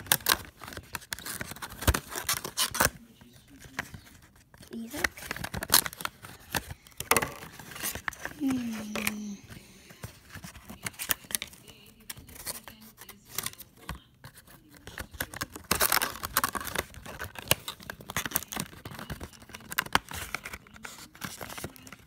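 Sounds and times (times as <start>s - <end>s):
plastic packaging crackling: 0.0s - 22.0s.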